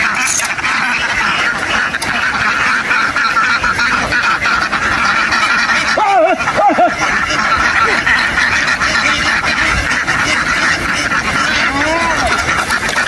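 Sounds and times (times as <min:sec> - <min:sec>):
flock of ducks quacking: 0:00.0 - 0:13.0
loud arching duck calls: 0:00.0 - 0:13.0.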